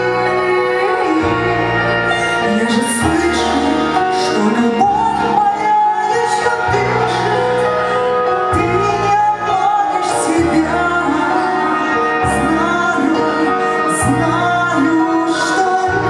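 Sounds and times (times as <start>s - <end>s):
woman singing into microphone: 0.0s - 16.0s.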